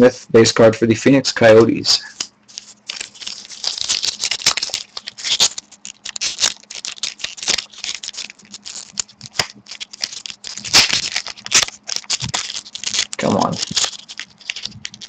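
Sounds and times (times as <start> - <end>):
faint steady hum: 0.0 - 15.0
foil wrapper crinkling: 2.1 - 15.0.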